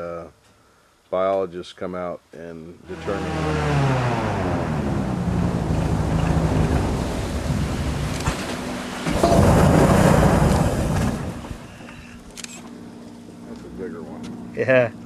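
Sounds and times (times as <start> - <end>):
airboat engine and propeller drone: 2.8 - 15.0.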